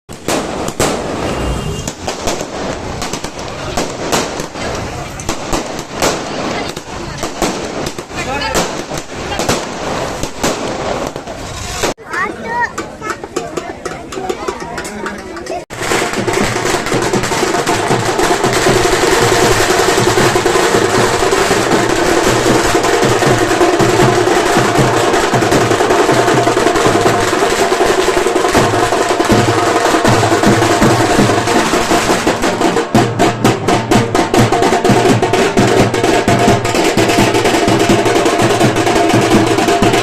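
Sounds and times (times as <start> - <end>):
loud fast drumming: 0.2 - 11.9, 12.8 - 40.0.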